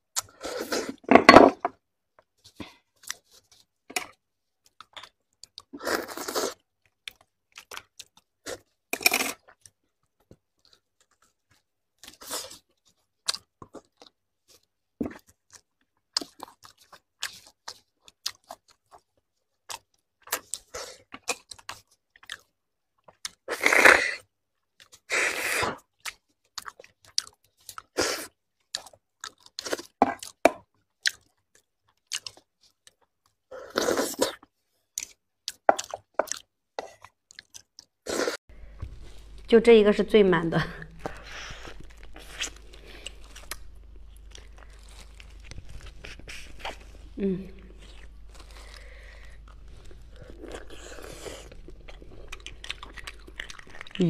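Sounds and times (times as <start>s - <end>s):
chewing and crunching: 2.4s - 23.6s, 24.2s - 39.5s, 41.0s - 54.0s.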